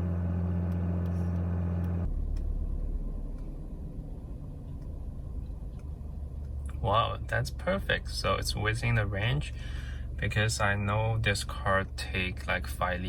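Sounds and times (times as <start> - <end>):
car engine idling: 0.0 - 13.0
steady low pitched hum: 0.0 - 13.0.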